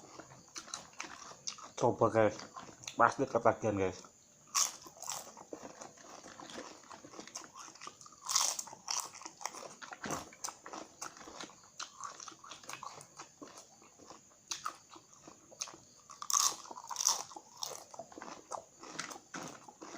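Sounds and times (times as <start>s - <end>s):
crunching chips: 0.0s - 19.9s.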